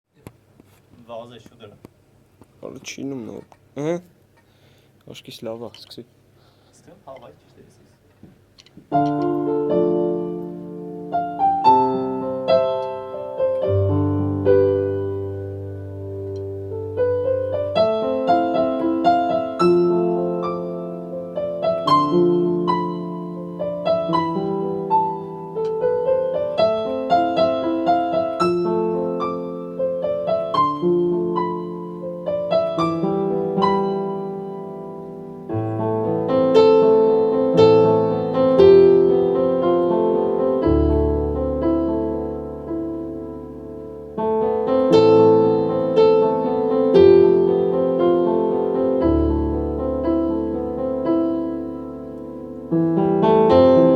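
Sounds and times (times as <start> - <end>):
piano playing broken chords: 8.8 - 53.9.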